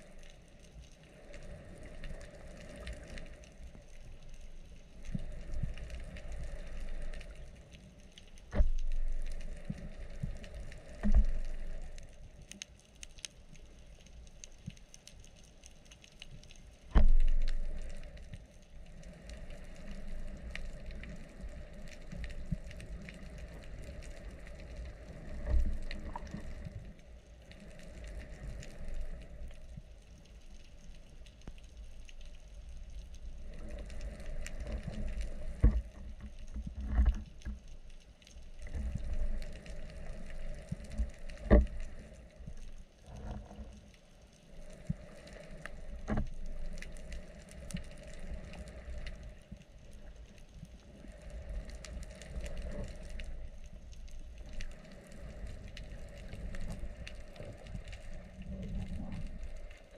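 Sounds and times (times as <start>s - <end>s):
underwater crackle of clicks: 0.0s - 59.9s.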